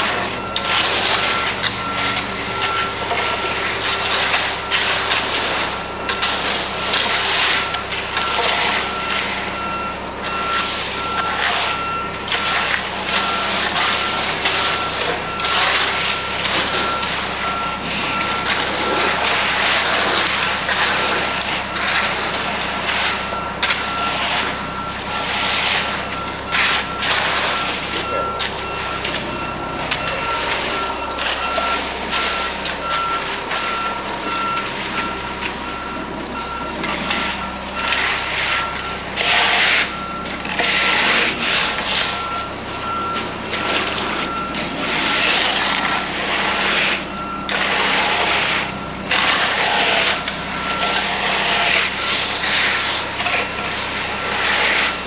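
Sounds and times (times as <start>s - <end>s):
diesel engine running: 0.0s - 55.0s
truck reversing alarm beeping: 0.0s - 55.0s.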